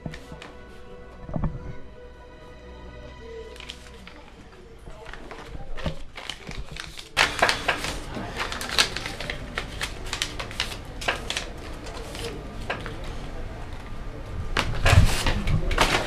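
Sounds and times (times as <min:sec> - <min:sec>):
paper rustling and crackling: 0:00.0 - 0:01.7, 0:03.5 - 0:13.8, 0:14.5 - 0:16.0.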